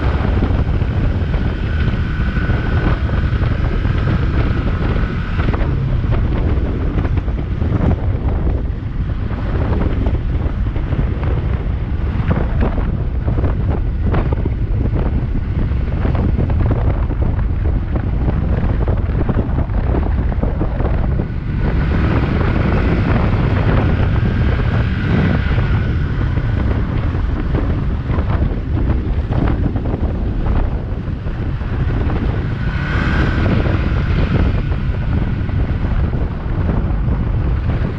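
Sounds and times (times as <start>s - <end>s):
motorcycle engine running: 0.0s - 37.9s
wind buffeting microphone: 0.0s - 37.9s.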